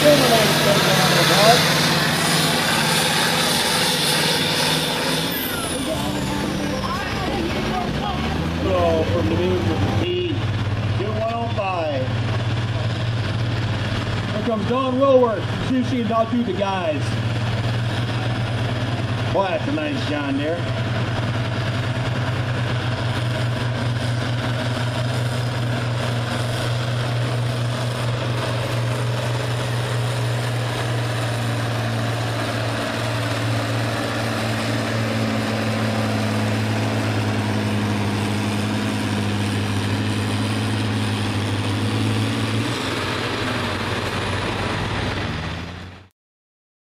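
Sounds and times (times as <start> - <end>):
tractor diesel engine under load: 0.0 - 46.1.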